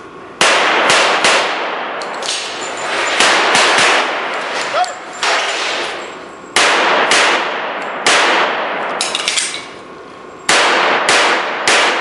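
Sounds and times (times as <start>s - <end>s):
pistol shots echoing in hall: 0.4s - 6.0s, 6.6s - 9.1s, 10.5s - 12.0s.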